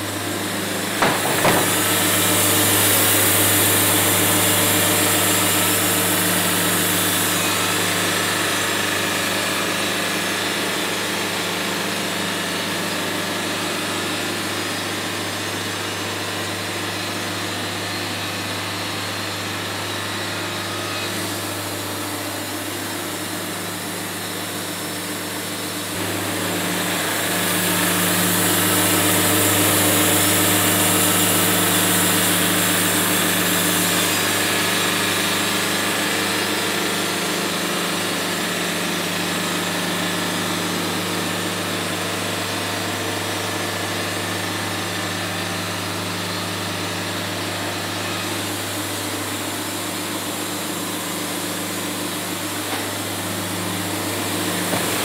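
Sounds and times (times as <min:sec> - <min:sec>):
sawmill engine drone: 0:00.0 - 0:55.0.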